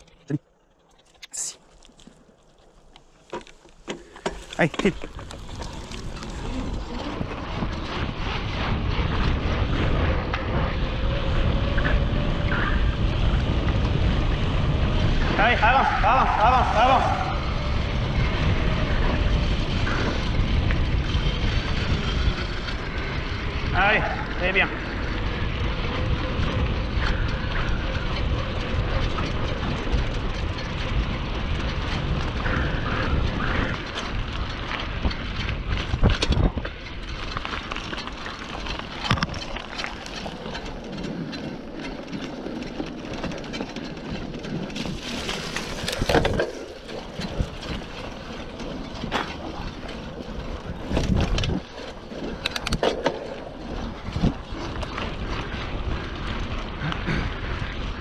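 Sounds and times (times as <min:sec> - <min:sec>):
bike tyres rolling on trail: 0:00.0 - 0:58.0
wind rumbling on microphone: 0:00.0 - 0:58.0
bike knocks and rattles: 0:01.9 - 0:15.3, 0:17.5 - 0:58.0.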